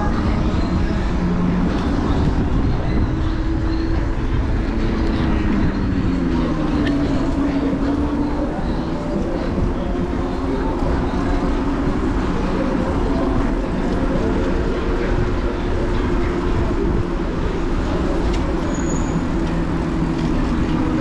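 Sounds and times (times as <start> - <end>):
road rumble: 0.0 - 21.0
wind noise: 0.0 - 21.0.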